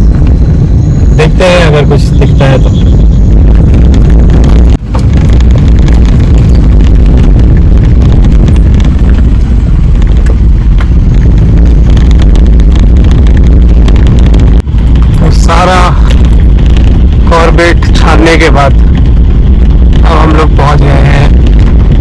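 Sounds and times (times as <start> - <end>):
vehicle engine and road rumble: 0.0 - 22.0
wind buffeting microphone: 0.0 - 22.0.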